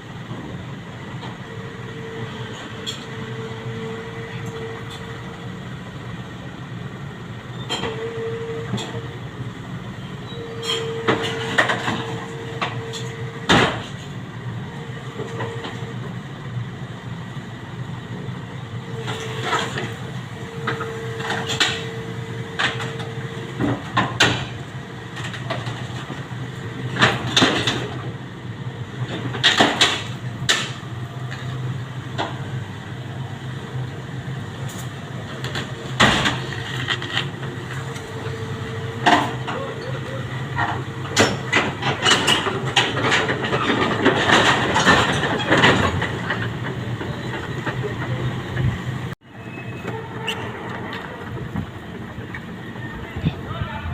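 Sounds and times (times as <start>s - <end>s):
excavator engine drone: 0.0s - 53.9s.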